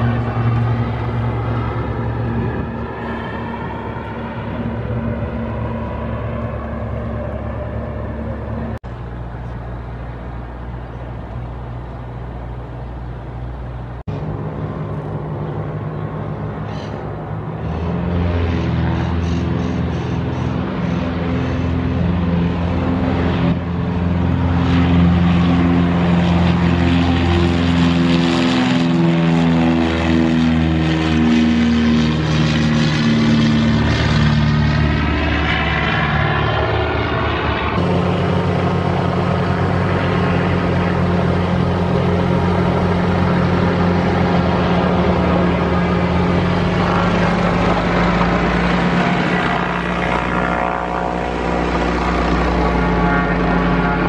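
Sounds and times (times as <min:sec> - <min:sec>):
twin piston engine plane: 0:00.0 - 0:54.0.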